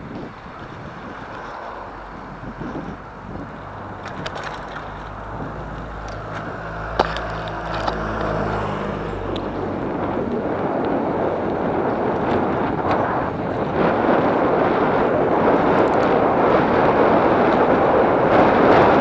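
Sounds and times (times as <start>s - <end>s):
vehicle engine hum: 0.0s - 19.0s
wind rushing over microphone: 0.0s - 19.0s.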